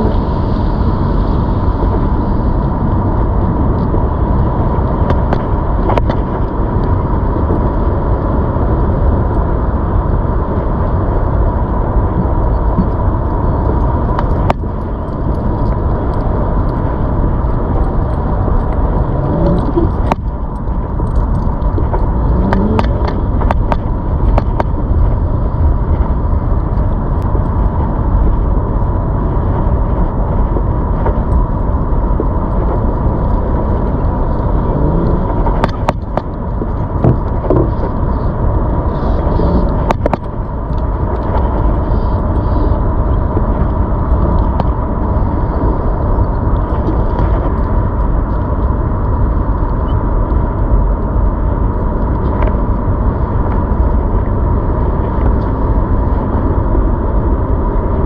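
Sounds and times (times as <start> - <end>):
thin steady whine: 0.0 - 58.0
wind and road noise: 0.0 - 58.0.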